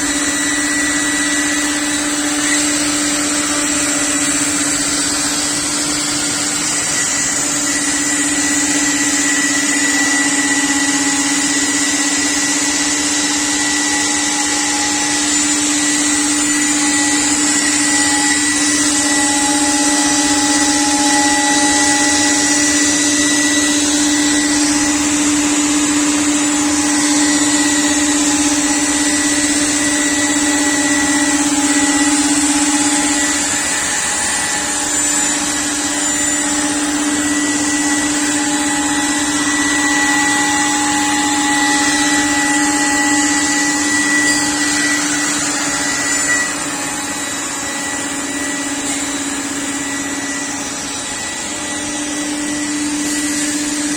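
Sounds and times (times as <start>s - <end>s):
machine hum: 0.0s - 53.9s.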